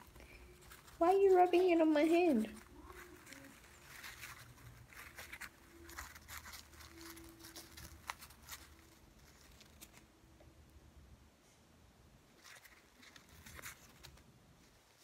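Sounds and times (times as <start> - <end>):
paper napkin crinkling and tearing: 0.0 - 10.2, 12.4 - 15.0.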